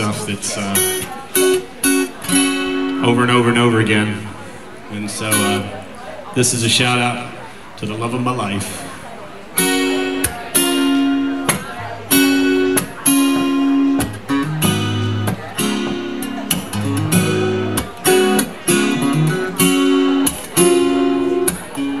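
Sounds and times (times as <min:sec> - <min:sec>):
acoustic guitar strumming chords: 0:00.0 - 0:05.9, 0:09.5 - 0:22.0.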